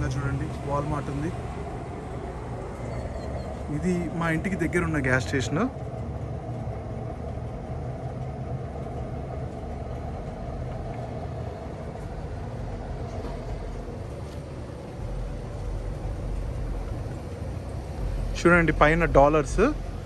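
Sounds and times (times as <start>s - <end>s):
fuel pump humming and rushing: 0.0s - 20.0s
low rumble: 0.0s - 20.0s.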